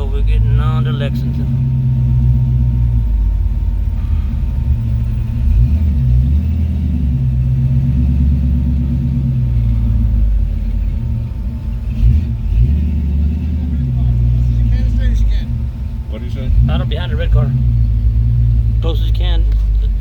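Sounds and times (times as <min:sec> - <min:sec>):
car engine running low: 0:00.0 - 0:20.0.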